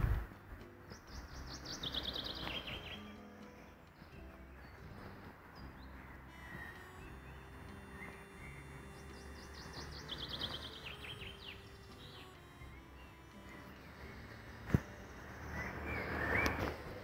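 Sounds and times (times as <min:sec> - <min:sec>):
faint low outdoor background: 0:00.0 - 0:17.0
songbird singing high notes: 0:00.8 - 0:17.0.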